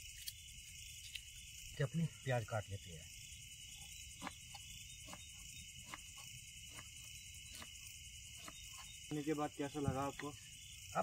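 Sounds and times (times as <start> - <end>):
crickets and night insects: 0.0 - 11.0.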